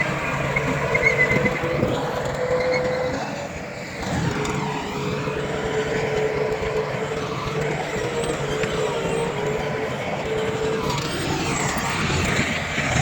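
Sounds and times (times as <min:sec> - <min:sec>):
heavy diesel machinery running: 0:00.0 - 0:13.0
steady whine: 0:00.0 - 0:13.0.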